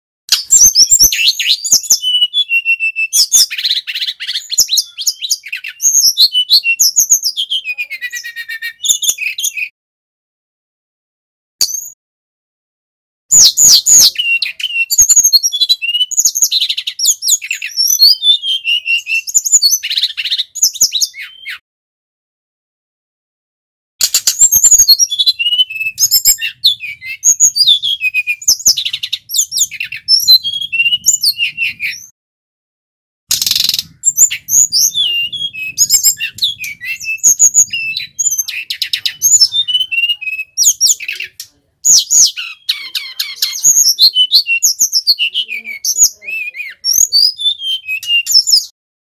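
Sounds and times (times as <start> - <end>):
bird singing chirps and trills: 0.4 - 9.7, 13.3 - 21.6, 24.0 - 32.1, 33.3 - 48.7.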